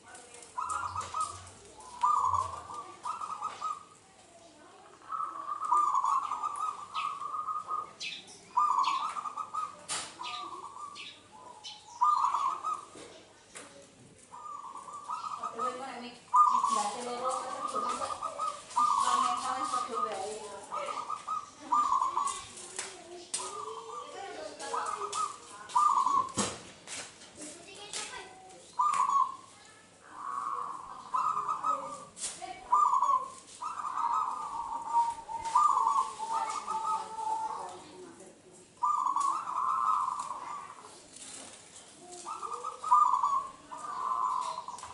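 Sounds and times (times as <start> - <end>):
dove cooing: 0.0 - 13.4, 14.2 - 26.5, 27.7 - 44.9
small birds chirping: 0.0 - 44.9.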